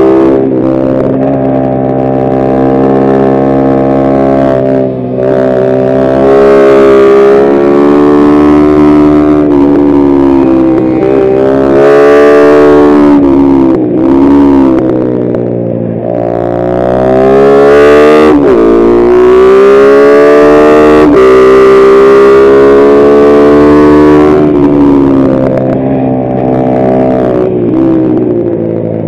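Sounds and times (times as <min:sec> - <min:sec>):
motorbike engine revving: 0:00.0 - 0:29.0.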